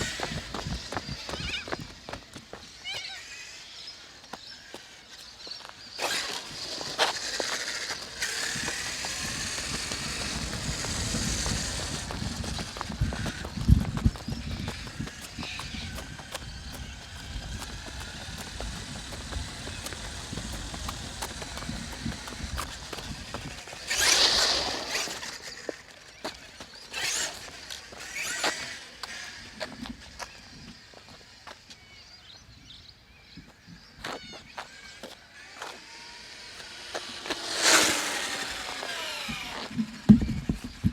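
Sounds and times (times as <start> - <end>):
toy truck tyre and drivetrain noise: 0.0 - 40.9.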